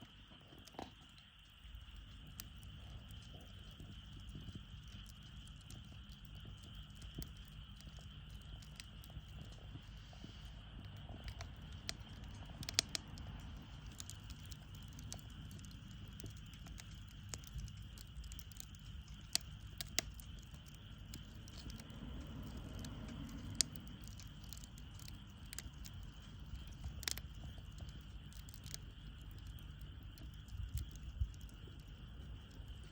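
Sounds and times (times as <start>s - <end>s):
low fire rumble: 0.0s - 32.9s
wood fire crackling: 0.0s - 32.9s.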